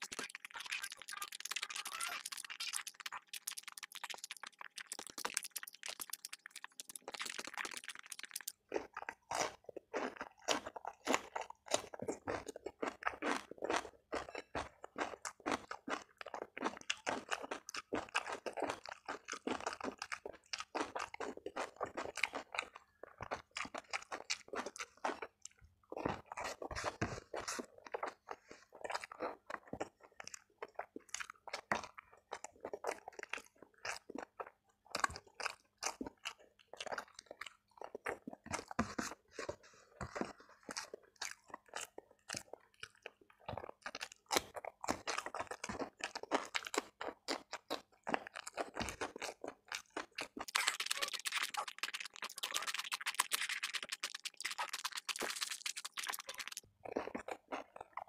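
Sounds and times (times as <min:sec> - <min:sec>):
crisp chewing crunches: 0:00.0 - 0:58.0.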